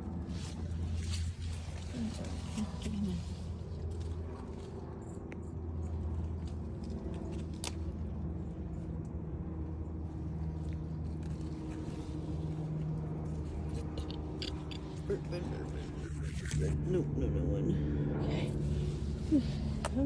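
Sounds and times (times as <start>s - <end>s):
engine running hum: 0.0s - 20.0s.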